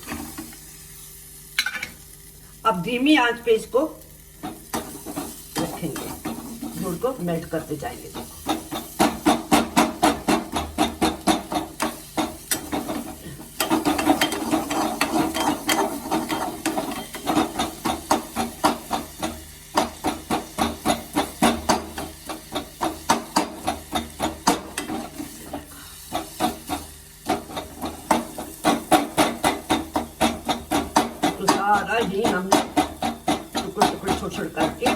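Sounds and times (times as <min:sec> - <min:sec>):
utensil knocking and scraping in a pan: 0:00.0 - 0:00.7, 0:01.6 - 0:02.0, 0:04.3 - 0:34.9.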